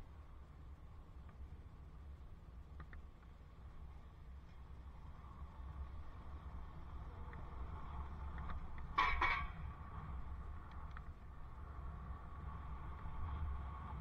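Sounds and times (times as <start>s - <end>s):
wind and riding noise: 0.0s - 14.0s.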